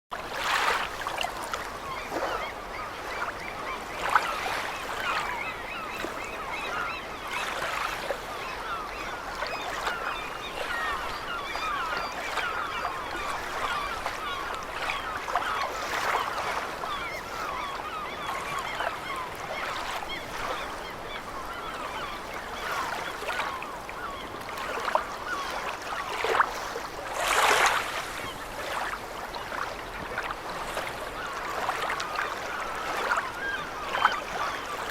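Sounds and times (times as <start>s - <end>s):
gulls calling: 0.6s - 26.4s, 27.2s - 34.9s.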